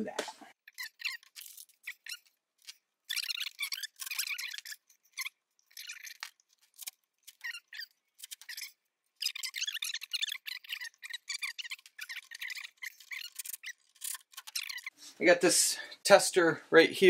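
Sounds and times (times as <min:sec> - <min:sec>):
scraping rustling and squeaking: 0:00.5 - 0:15.3.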